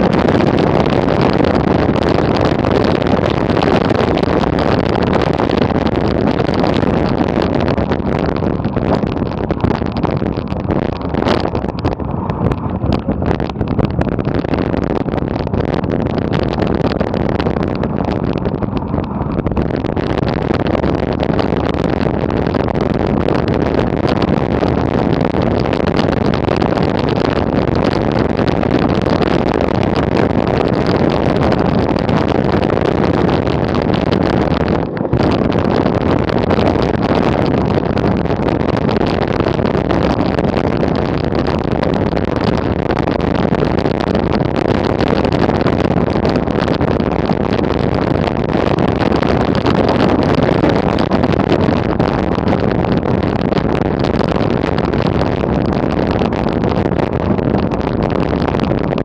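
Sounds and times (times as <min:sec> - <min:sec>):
bicycle tyres rattling over gravel: 0:00.0 - 0:59.0
wind rushing over microphone: 0:00.0 - 0:59.0.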